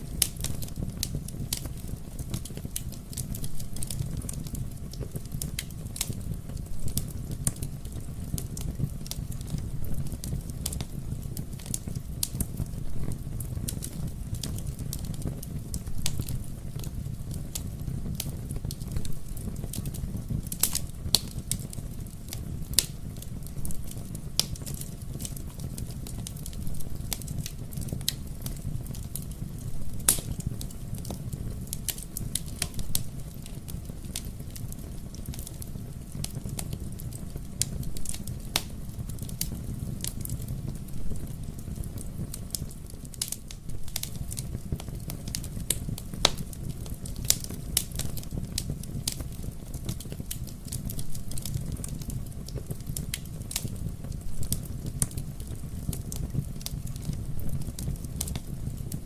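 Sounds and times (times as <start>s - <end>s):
fire crackling and popping: 0.0s - 59.0s
fireplace flames rumbling: 0.0s - 59.0s.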